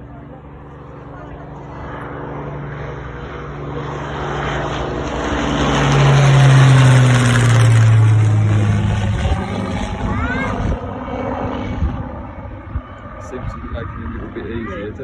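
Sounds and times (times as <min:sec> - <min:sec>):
propeller aircraft passing: 0:00.0 - 0:15.0.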